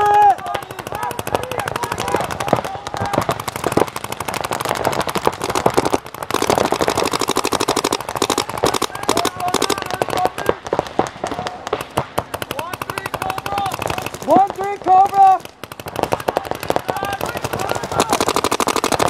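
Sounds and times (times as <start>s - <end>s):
paintball markers firing: 0.0s - 19.0s.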